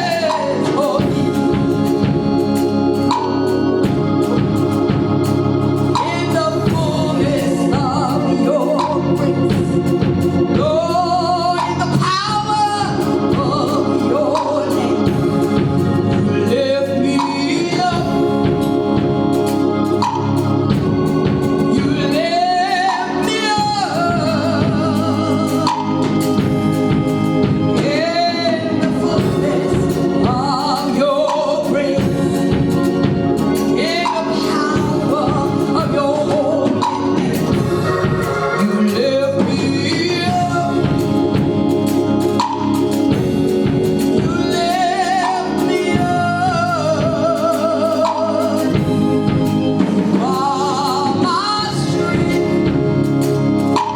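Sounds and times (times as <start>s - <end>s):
gospel singing with vibrato: 0.0s - 53.9s
sustained instrumental chords: 0.0s - 53.9s.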